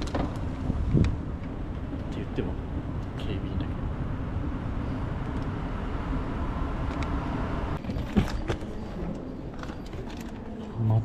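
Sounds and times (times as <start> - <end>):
escalator rumbling: 0.0 - 8.9.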